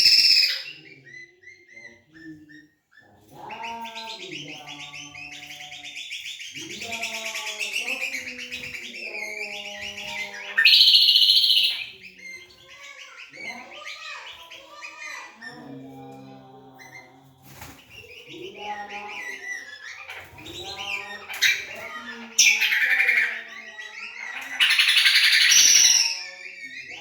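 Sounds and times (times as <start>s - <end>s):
songbirds trilling: 0.0s - 27.0s.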